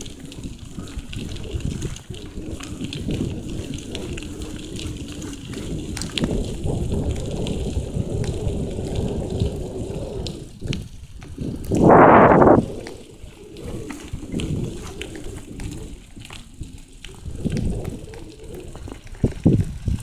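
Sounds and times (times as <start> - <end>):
bicycle rolling on dirt track: 0.0 - 20.0
wind rushing over microphone: 0.0 - 20.0.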